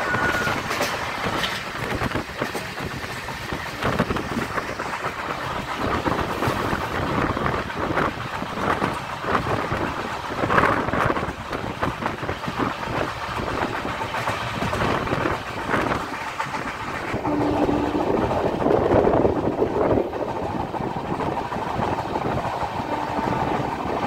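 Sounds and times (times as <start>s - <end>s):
train wheels clattering on track: 0.0s - 24.0s.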